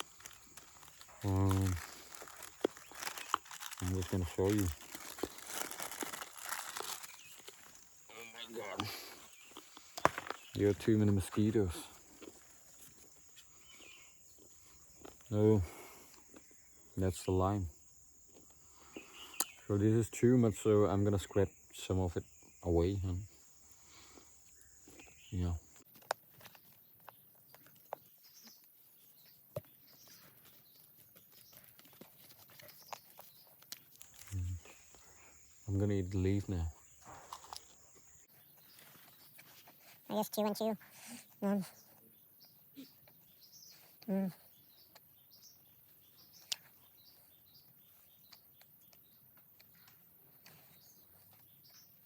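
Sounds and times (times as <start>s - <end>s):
faint outdoor background hiss: 0.0s - 31.5s, 32.7s - 52.0s
small birds chirping: 0.0s - 52.0s.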